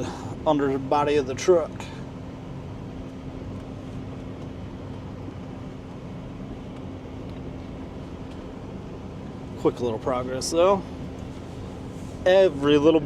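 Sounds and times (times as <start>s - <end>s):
constant low hum: 0.0s - 13.0s
pickup truck driving: 0.0s - 13.0s.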